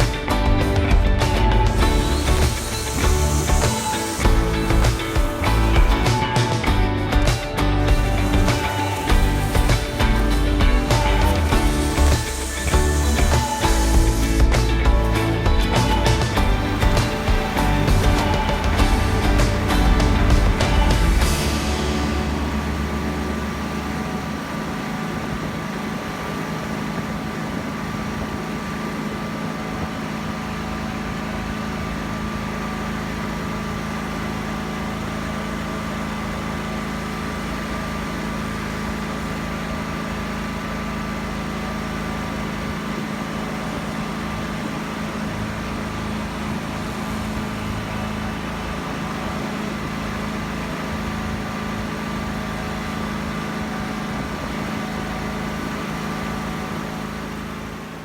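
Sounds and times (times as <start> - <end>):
small engine running steadily: 0.0 - 58.0.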